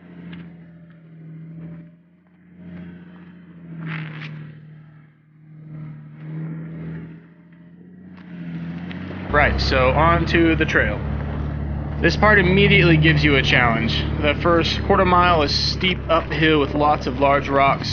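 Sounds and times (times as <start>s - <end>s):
vehicle engine running: 0.0s - 17.9s.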